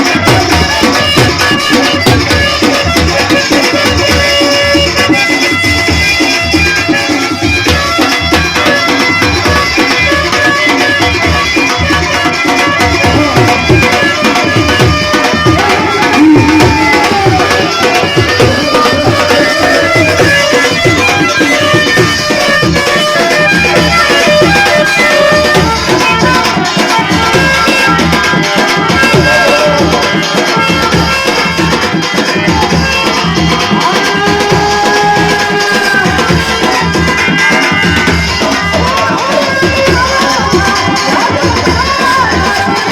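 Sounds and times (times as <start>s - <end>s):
sustained reedy melody: 0.0s - 40.8s
hand drum beat: 0.0s - 42.9s.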